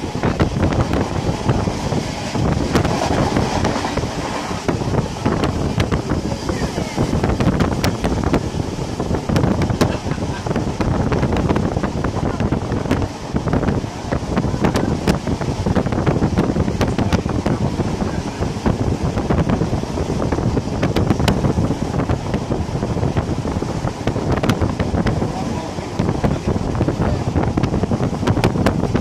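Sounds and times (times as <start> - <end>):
train rumbling along track: 0.0 - 29.0
wind rushing over microphone: 0.0 - 29.0.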